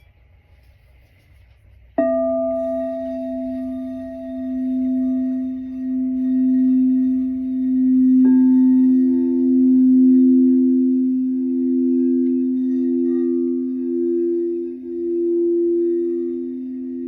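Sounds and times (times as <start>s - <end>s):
higher bowl struck: 2.0s - 17.0s
singing bowl ringing: 2.0s - 17.0s.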